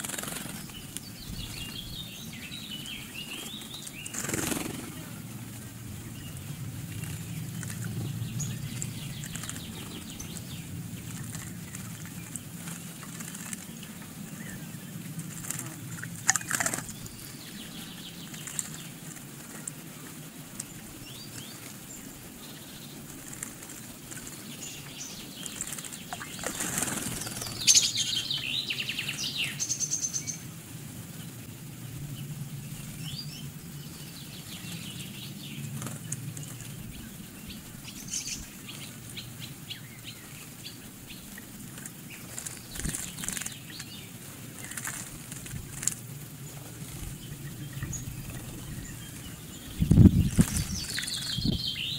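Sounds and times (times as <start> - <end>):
birds splashing in water: 0.0 - 1.1, 2.9 - 29.6, 35.6 - 51.9.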